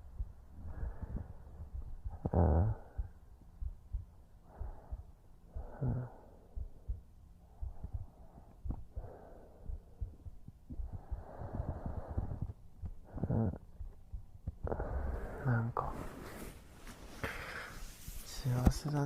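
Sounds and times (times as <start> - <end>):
heartbeat thumps: 0.0 - 15.5
slow breathing: 0.0 - 18.3.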